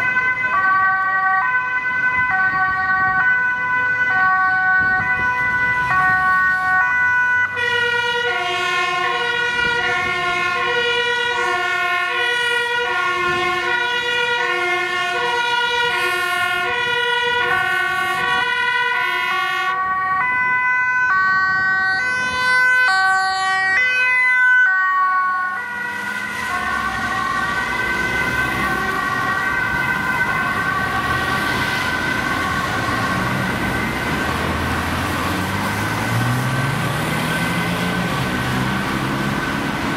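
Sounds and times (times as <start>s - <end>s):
ambulance two-tone siren: 0.0s - 39.9s
traffic noise: 0.0s - 39.9s.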